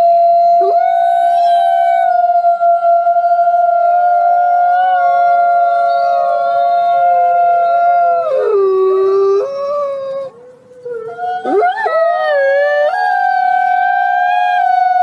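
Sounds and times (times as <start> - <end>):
wolves howling: 0.0 - 15.0.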